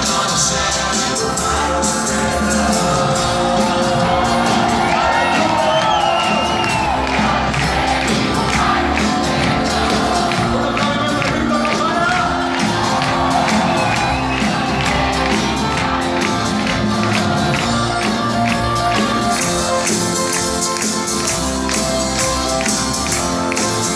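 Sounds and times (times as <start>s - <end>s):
audience cheering and shouting: 0.0s - 23.9s
live rock band playing: 0.0s - 23.9s.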